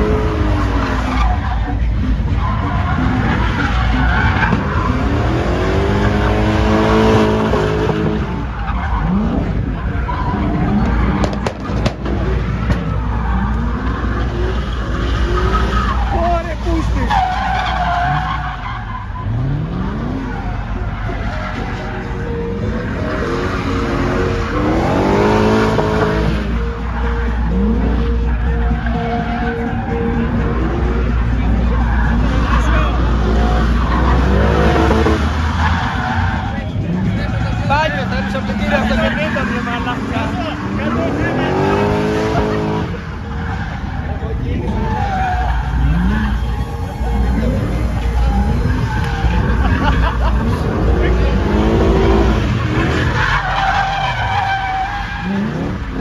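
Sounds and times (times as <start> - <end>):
car engine revving: 0.0 - 56.0
tyres skidding: 0.0 - 56.0.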